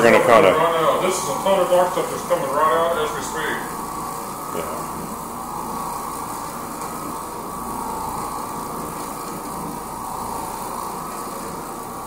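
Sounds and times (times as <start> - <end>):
floor machine motor droning: 0.0 - 12.0.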